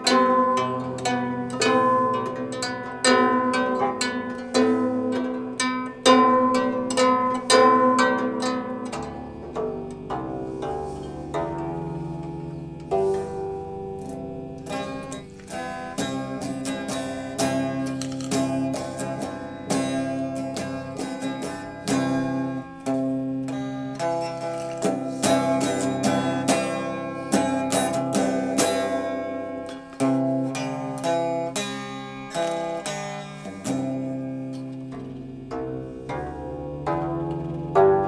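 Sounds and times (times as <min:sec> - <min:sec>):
plucked string instrument melody: 0:00.0 - 0:38.0.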